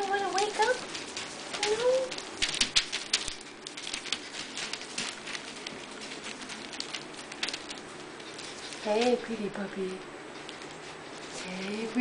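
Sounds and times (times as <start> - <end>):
puppy paws scrabbling on newspaper: 0.0 - 12.0.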